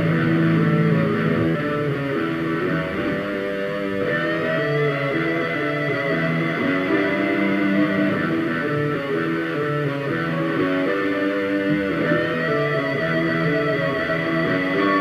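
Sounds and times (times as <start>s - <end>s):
layered electric guitars: 0.0s - 15.0s
long high guitar note: 0.0s - 15.0s.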